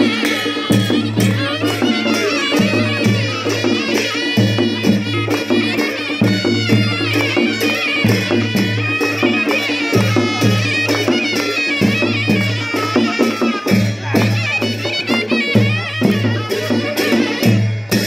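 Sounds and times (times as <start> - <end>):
drum and cymbal beat: 0.0 - 18.0
reedy wind instrument melody: 0.0 - 18.0.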